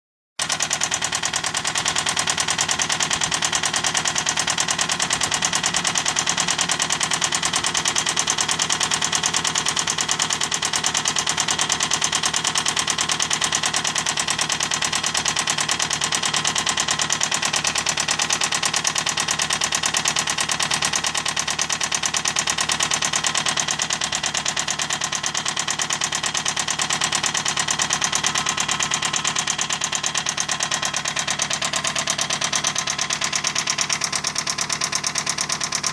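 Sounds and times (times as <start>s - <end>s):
car engine running: 0.4s - 35.9s.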